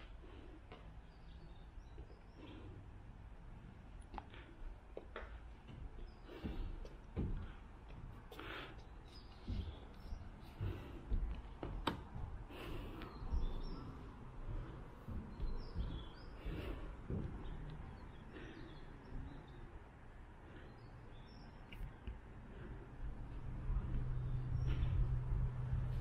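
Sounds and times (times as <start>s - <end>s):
low background rumble: 0.0s - 26.0s
small birds chirping: 0.0s - 26.0s.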